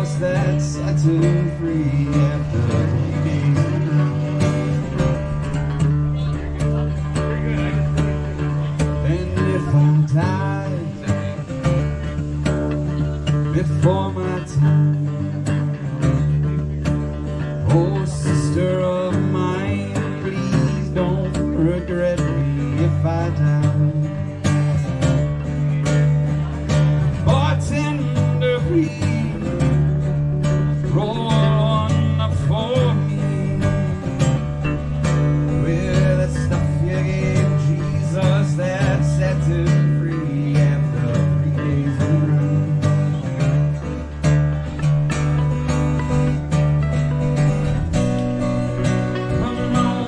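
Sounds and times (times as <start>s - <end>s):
man singing: 0.0s - 44.7s, 48.9s - 50.0s
acoustic guitars strummed and picked: 0.0s - 50.0s.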